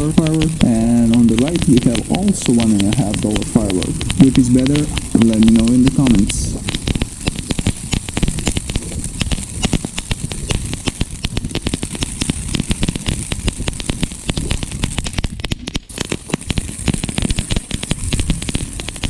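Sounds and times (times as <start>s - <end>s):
firework fountain crackling: 0.0s - 19.0s
firework fountain spray hissing: 0.0s - 19.0s.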